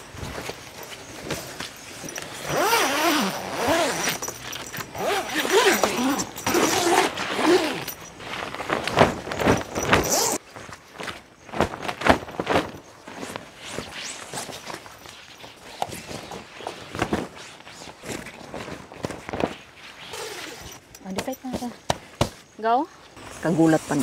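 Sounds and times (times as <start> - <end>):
tent zipper rasping: 0.2 - 10.4, 11.8 - 20.9.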